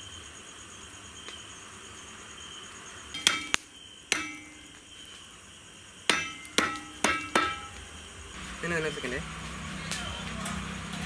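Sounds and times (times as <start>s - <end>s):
faint insect chirring: 0.0s - 10.9s.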